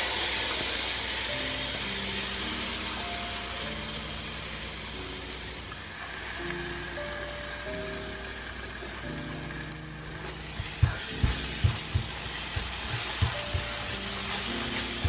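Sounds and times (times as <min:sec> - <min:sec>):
spice paste sizzling in oil: 0:00.0 - 0:15.0.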